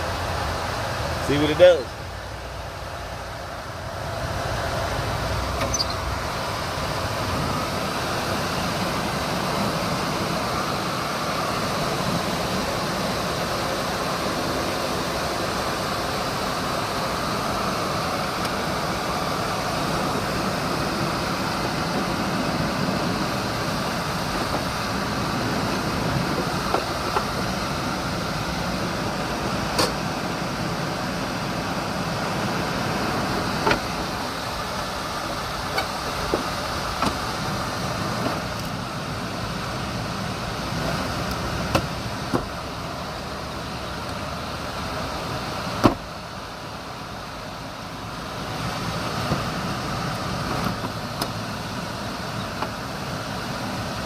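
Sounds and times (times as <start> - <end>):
air conditioning hum: 0.0 - 54.0.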